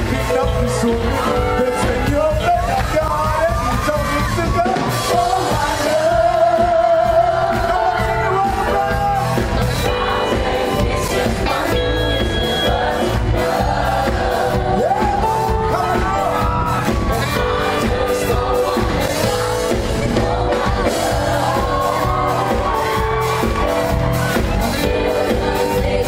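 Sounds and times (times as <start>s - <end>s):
male vocalists singing: 0.0s - 23.2s, 24.3s - 26.0s
band playing live: 0.0s - 26.0s.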